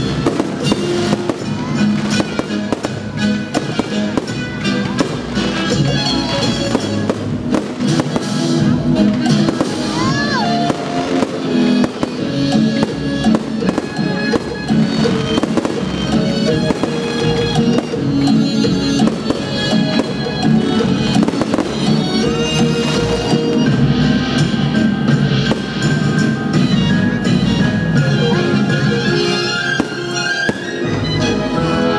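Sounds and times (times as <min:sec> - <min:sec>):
fireworks bursting: 0:00.0 - 0:31.7
loud music: 0:00.0 - 0:31.9.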